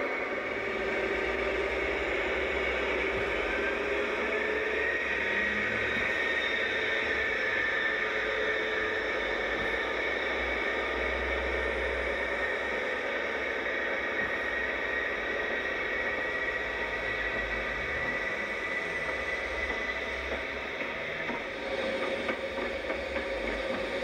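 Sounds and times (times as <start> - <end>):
diesel train passing slowly: 0.0 - 24.0.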